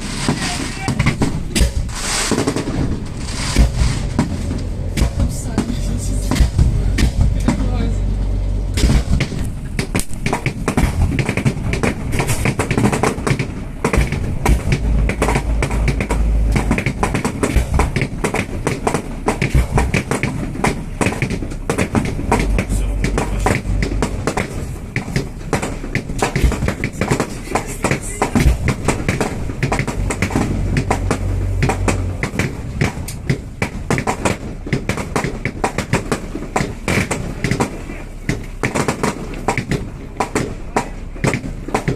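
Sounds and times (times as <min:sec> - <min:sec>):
fireworks bangs and crackling: 0:00.0 - 0:08.1, 0:08.7 - 0:41.9
deep fireworks booms: 0:00.0 - 0:41.9.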